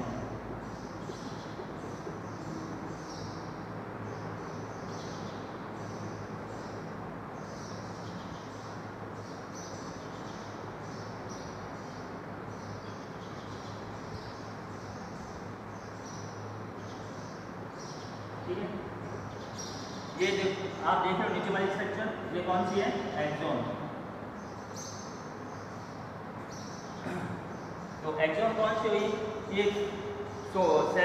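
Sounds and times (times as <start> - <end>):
room hum and hiss: 0.0 - 31.0.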